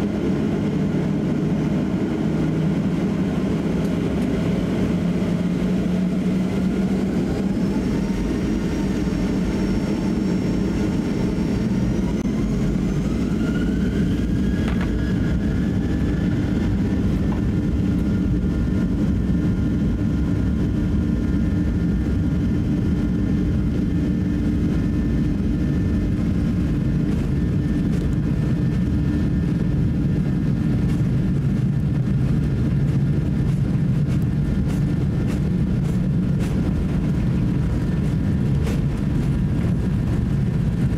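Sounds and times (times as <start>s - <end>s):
aircraft rolling rumble: 0.0s - 40.9s
jet engines spooling up: 0.0s - 40.9s.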